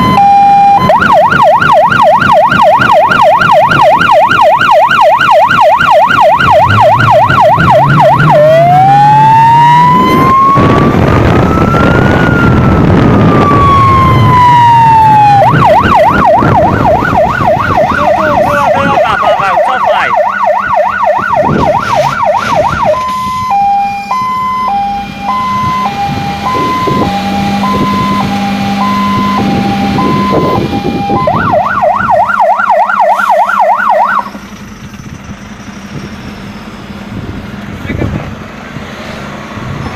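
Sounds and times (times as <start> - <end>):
fire engine siren: 0.0 - 37.4.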